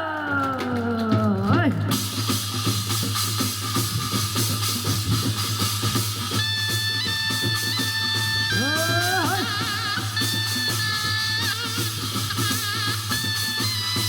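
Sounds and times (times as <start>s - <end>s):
quick dense drum strokes: 1.6s - 14.0s.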